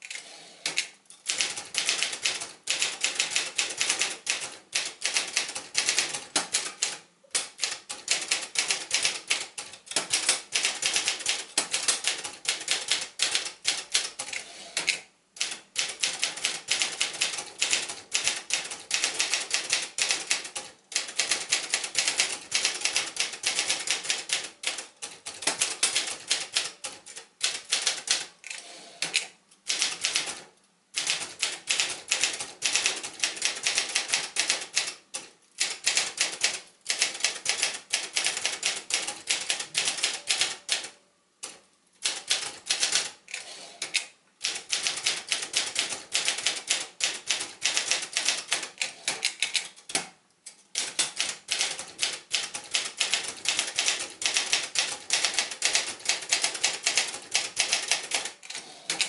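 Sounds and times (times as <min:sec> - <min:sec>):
manual typewriter typing: 0:00.0 - 0:59.0.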